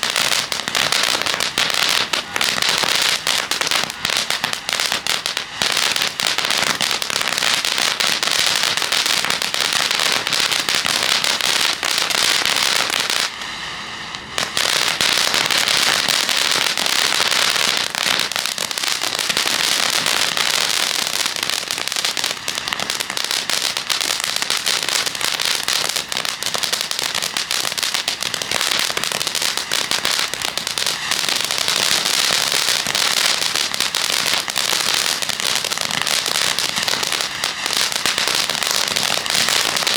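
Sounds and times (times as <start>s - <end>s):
firework fountain crackling: 0.0s - 39.9s.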